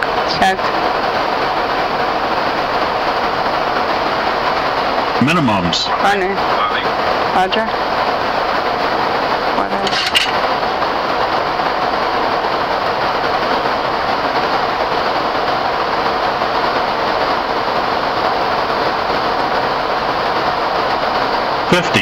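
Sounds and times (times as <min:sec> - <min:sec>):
airflow and engine noise in cockpit: 0:00.0 - 0:22.0.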